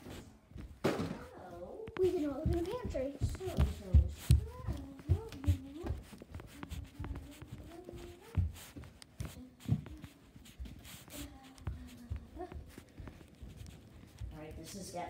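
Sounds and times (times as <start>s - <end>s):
footsteps on wood floor: 0.0s - 15.0s.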